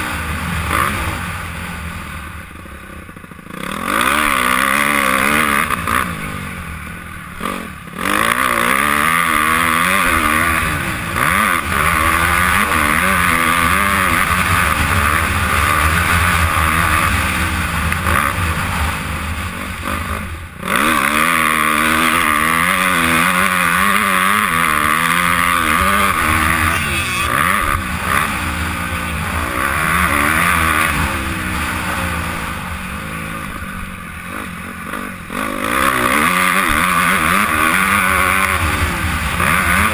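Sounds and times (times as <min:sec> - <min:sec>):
motocross engine revving hard: 0:00.0 - 0:01.8, 0:03.4 - 0:06.6, 0:07.4 - 0:39.9.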